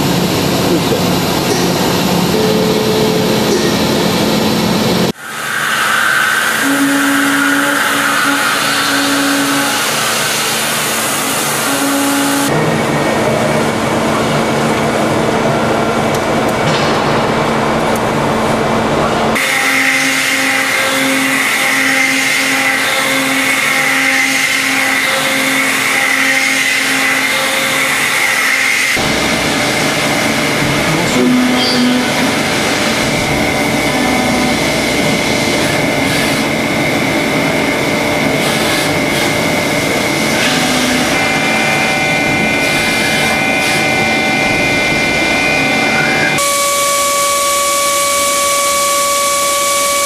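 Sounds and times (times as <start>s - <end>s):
cnc machine milling metal: 0.0s - 50.0s.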